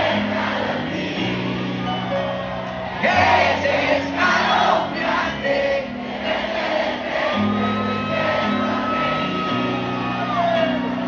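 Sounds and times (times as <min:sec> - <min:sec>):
crowd singing and shouting: 0:00.0 - 0:11.0.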